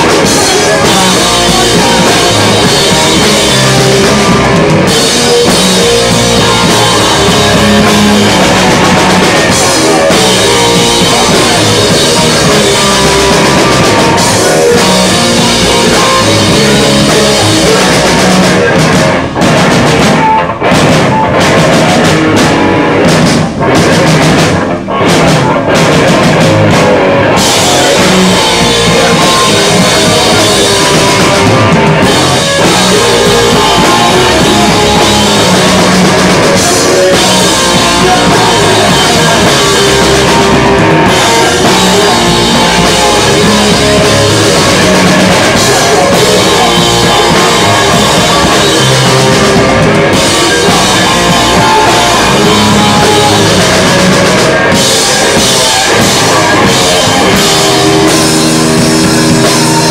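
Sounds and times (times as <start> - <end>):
distorted electric guitar: 0.0 - 59.9
pounding drum kit: 0.0 - 59.9.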